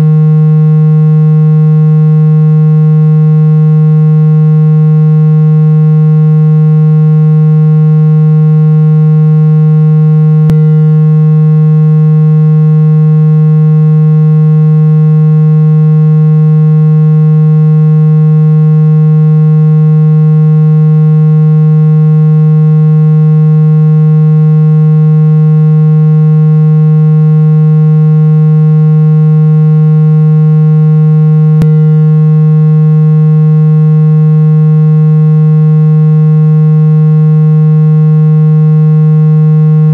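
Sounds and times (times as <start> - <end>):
low buzzy electronic tone: 0.0 - 39.9.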